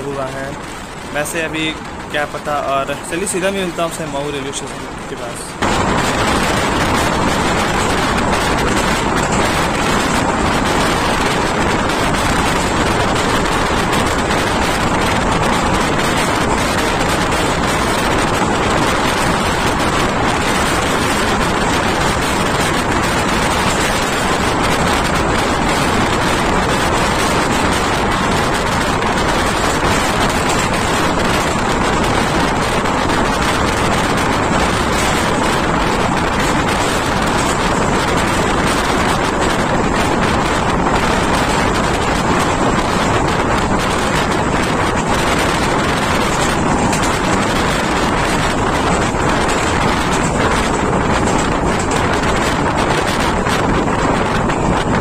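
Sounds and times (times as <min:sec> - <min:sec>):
rushing wind: 0:00.0 - 0:55.0
train wheels on rails: 0:00.0 - 0:55.0.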